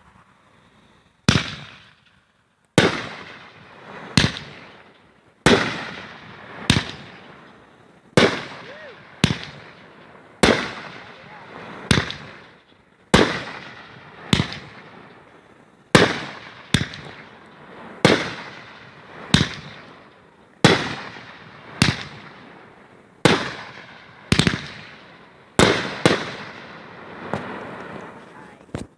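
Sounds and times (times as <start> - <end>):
fireworks sharp bangs: 1.2 - 28.9.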